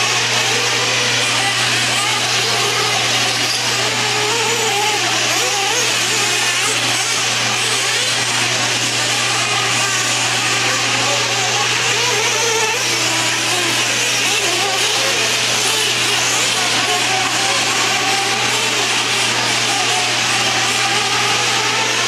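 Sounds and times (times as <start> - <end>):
small engines buzzing and revving: 0.0 - 22.0.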